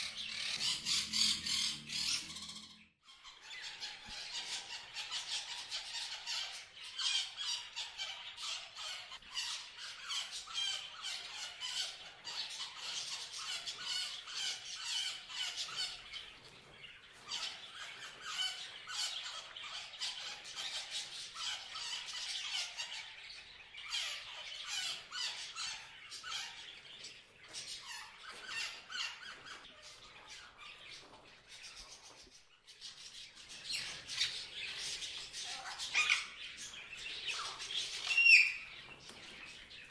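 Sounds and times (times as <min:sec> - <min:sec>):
parrots chirping and squawking: 0:00.0 - 0:31.0, 0:32.8 - 0:39.8.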